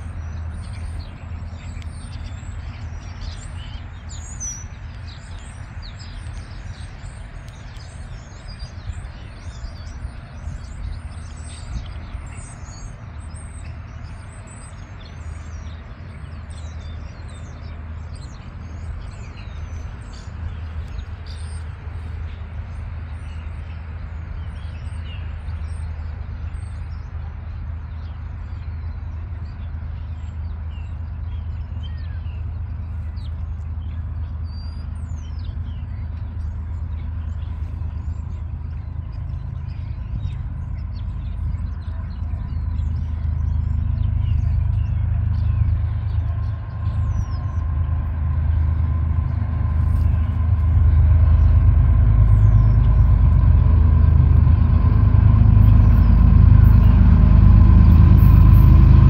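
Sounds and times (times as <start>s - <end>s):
birds chirping: 0.0s - 59.0s
locomotive low rumble: 0.0s - 59.0s.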